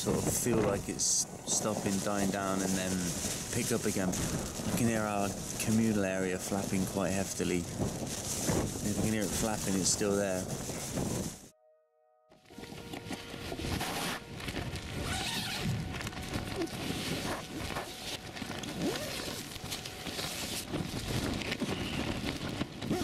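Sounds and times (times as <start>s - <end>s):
gusting wind: 0.0s - 11.5s, 12.5s - 23.0s
tent fabric flapping: 0.0s - 11.5s, 12.5s - 23.0s.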